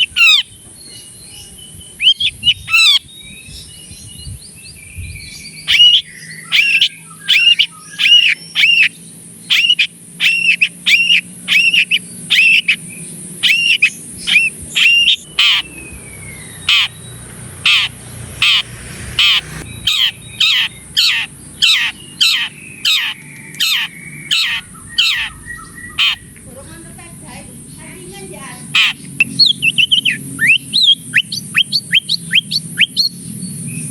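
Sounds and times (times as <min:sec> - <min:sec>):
bird repeated loud calls: 0:00.0 - 0:00.6, 0:01.9 - 0:03.1, 0:05.5 - 0:26.4, 0:27.4 - 0:33.2.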